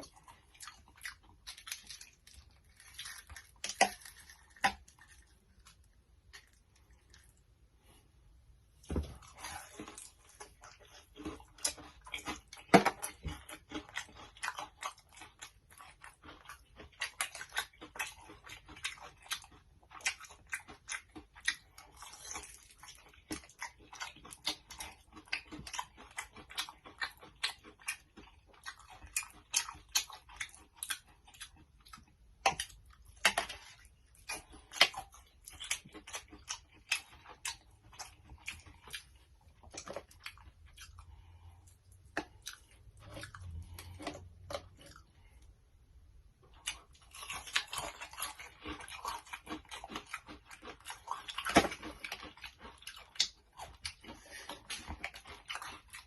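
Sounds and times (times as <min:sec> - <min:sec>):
crunchy chewing: 0:00.0 - 0:08.0, 0:09.1 - 0:45.5, 0:46.4 - 0:56.0.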